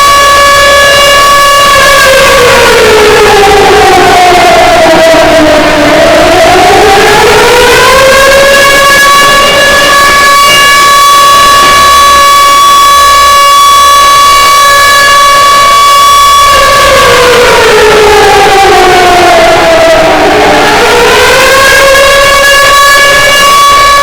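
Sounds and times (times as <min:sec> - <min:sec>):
civil defense siren wailing: 0:00.0 - 0:24.0.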